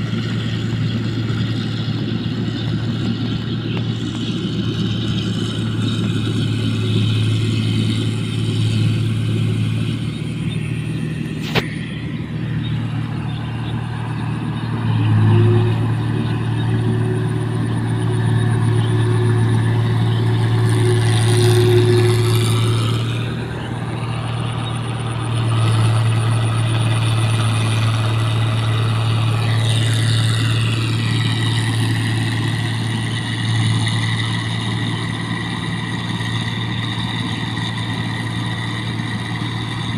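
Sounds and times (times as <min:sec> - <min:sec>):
harvester engine droning: 0:00.0 - 0:39.9
machine whine: 0:00.0 - 0:39.9.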